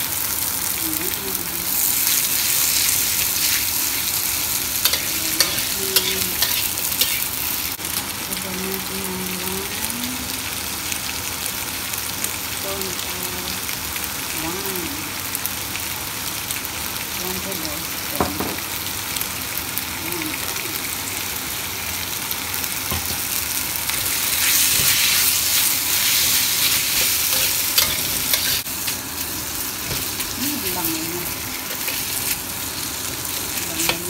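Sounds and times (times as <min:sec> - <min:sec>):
food sizzling in a wok: 0:00.0 - 0:34.0.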